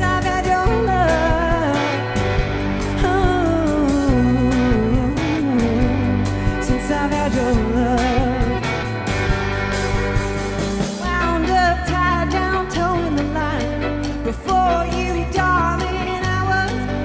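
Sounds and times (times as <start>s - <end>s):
woman singing: 0.0s - 8.9s, 11.0s - 17.0s
bass guitar: 0.0s - 17.0s
drum kit beat: 0.0s - 17.0s
electric guitar: 0.0s - 17.0s.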